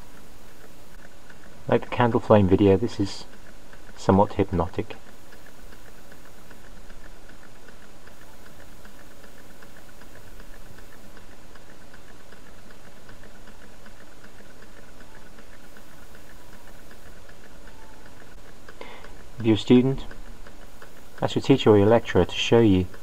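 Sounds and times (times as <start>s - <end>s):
stirling engine ticking: 0.1s - 23.0s.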